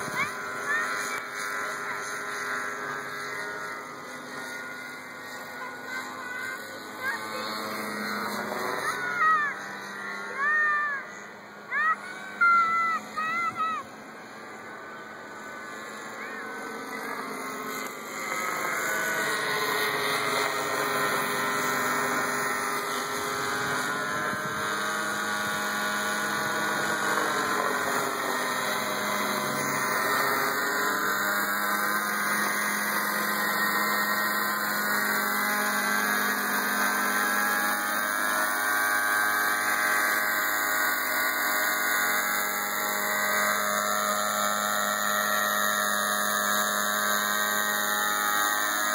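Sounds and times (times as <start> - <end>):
model helicopter engine whine: 0.0 - 48.9.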